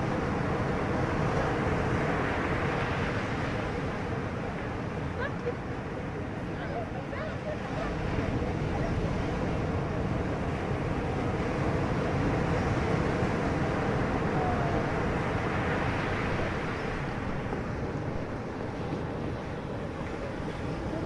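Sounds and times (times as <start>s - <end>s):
motorboat engine hum: 0.0s - 21.0s
wind and water rushing: 0.0s - 21.0s.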